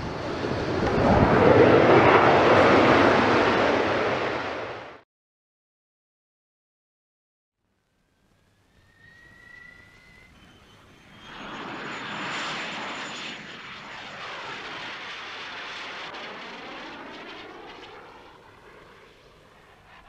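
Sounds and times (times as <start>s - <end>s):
aircraft flying past: 0.0s - 5.0s, 8.5s - 20.0s.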